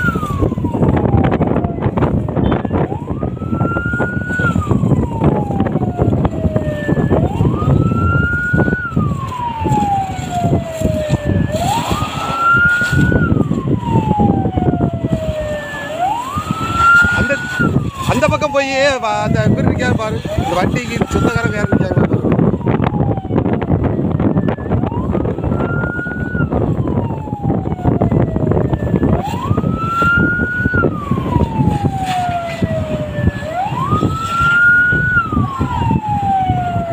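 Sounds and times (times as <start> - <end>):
emergency siren wailing: 0.0 - 36.9
steady rushing noise: 0.0 - 36.9.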